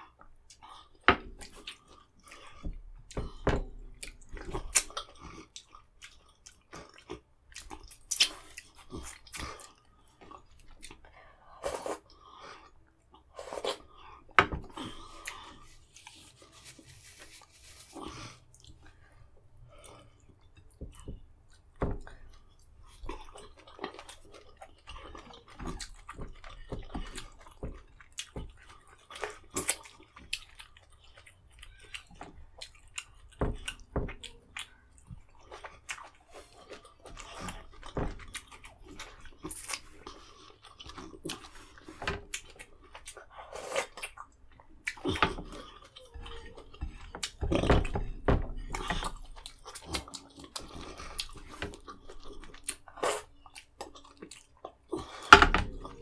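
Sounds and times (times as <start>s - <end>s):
man chewing with smacks and clicks: 0.0s - 16.4s, 17.9s - 56.0s.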